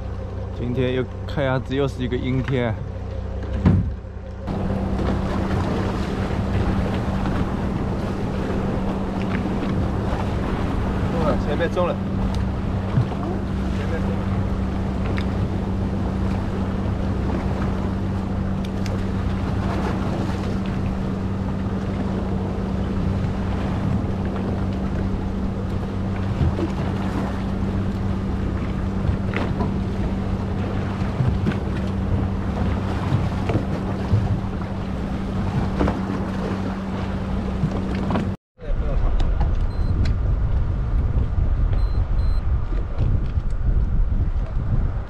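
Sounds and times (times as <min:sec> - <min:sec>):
boat engine humming: 0:00.0 - 0:45.0
waves washing against hull: 0:00.0 - 0:45.0
wind buffeting microphone: 0:03.6 - 0:45.0.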